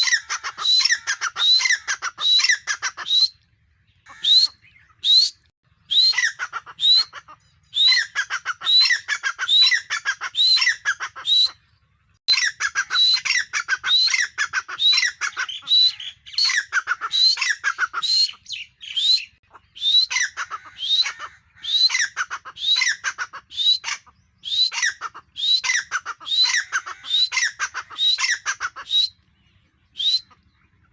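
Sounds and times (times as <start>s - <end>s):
francolin shrill calls: 0.0s - 3.4s, 4.0s - 11.7s, 12.3s - 30.7s.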